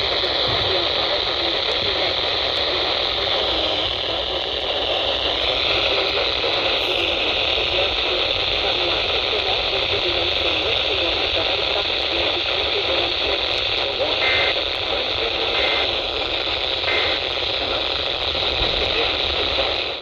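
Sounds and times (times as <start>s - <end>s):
faint data bursts: 0.0s - 20.0s
radio static hiss: 0.0s - 20.0s.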